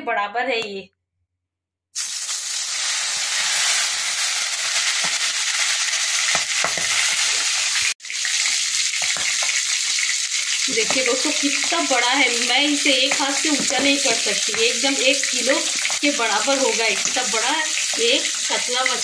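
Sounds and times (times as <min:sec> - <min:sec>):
fish frying in oil: 0:02.0 - 0:19.0.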